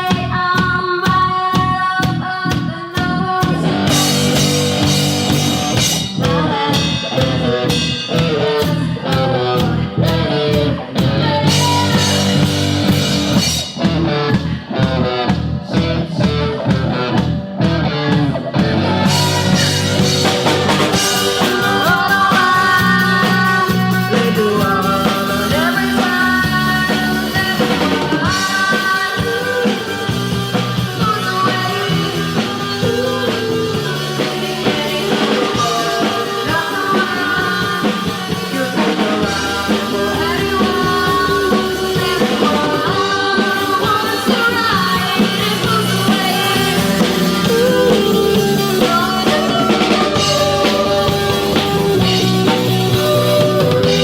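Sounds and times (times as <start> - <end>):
woman singing: 0.0 - 13.5, 14.1 - 54.0
fast drum beat: 0.0 - 54.0
rock band playing live: 0.0 - 54.0.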